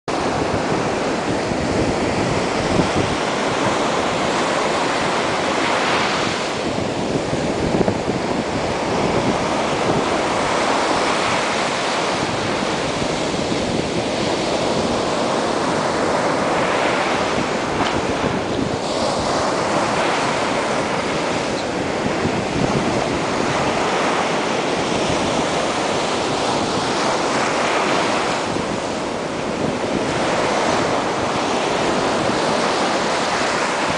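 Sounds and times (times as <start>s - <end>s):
surf washing up the beach: 0.1s - 33.9s
wind on the microphone: 0.1s - 33.9s.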